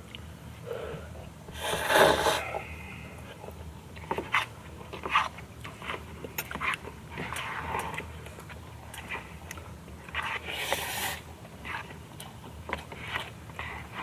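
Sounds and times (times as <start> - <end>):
slurping and chewing: 1.5 - 14.0.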